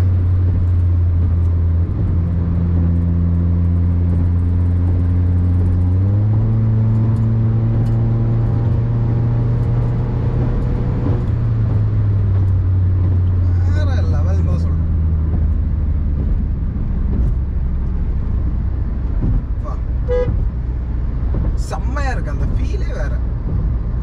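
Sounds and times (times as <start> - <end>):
car engine droning: 0.0 - 24.0.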